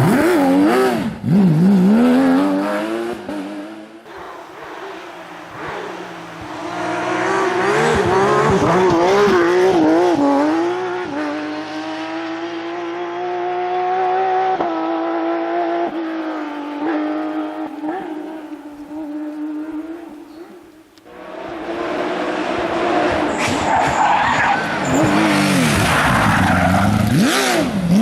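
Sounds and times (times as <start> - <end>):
rally car engine at high revs: 0.0 - 28.0.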